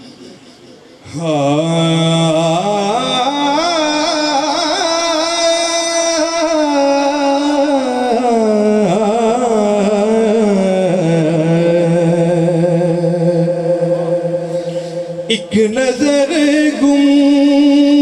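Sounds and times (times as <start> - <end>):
man singing into a microphone: 1.0 - 18.0.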